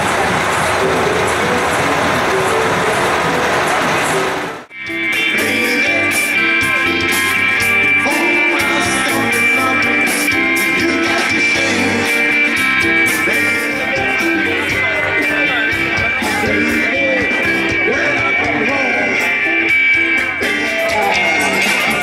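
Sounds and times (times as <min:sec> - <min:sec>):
bass guitar: 0:00.0 - 0:22.0
drums with cymbal hits: 0:00.0 - 0:22.0
electric guitars: 0:00.0 - 0:22.0.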